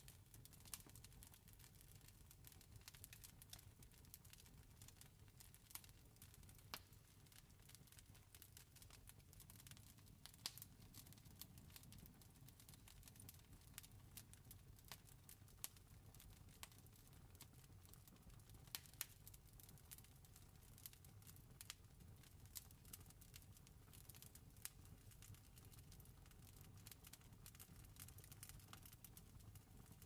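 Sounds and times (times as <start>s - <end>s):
campfire crackling and popping: 0.4s - 1.6s, 2.5s - 30.0s.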